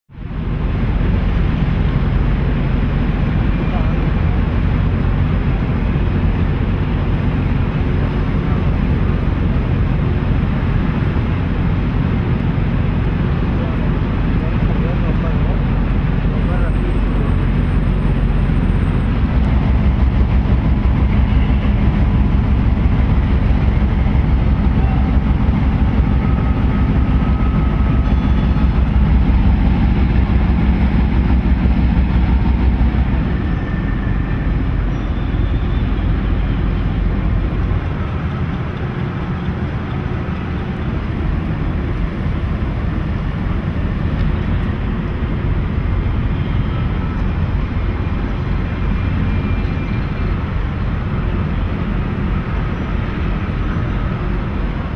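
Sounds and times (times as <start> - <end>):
low engine rumble: 0.1 - 54.9.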